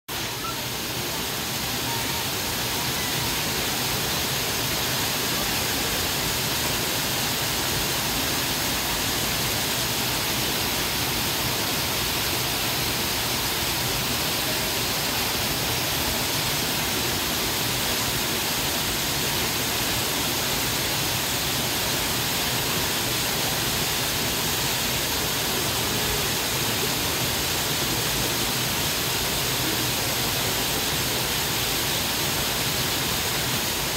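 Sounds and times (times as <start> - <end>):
waterfall rushing over rocks: 0.1 - 33.9.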